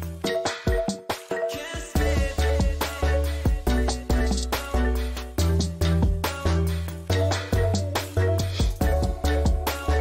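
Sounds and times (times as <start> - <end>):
music with beat and drums: 0.0 - 10.0
deep bass: 2.0 - 10.0.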